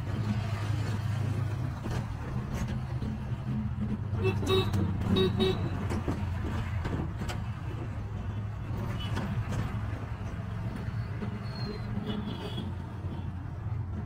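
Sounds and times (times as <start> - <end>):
auto-rickshaw engine running: 0.0 - 14.0
traffic noise: 0.0 - 14.0.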